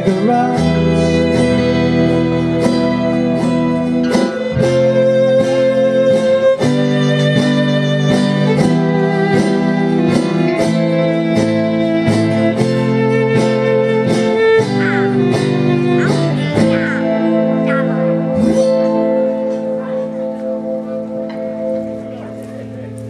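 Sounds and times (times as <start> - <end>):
autoharp: 0.0 - 23.0
bowed fiddle long notes: 0.0 - 23.0
strummed acoustic guitar: 0.0 - 23.0.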